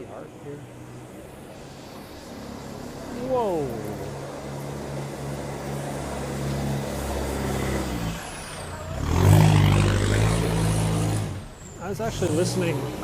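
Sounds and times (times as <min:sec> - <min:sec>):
heavy vehicle engine humming: 0:00.0 - 0:13.0.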